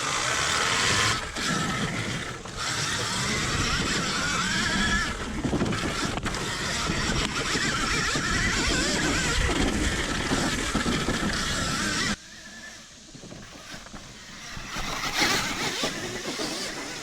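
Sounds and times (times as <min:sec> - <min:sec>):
electric motor whine: 0:00.0 - 0:17.0
tyres rushing on dirt: 0:00.0 - 0:17.0
wind noise on microphone: 0:00.0 - 0:17.0.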